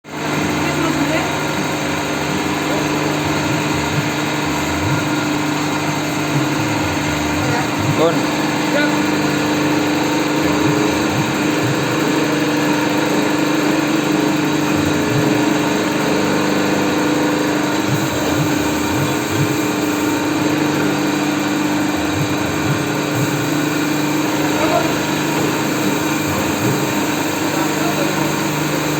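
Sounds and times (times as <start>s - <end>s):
hydraulic press motor humming: 0.0s - 28.9s.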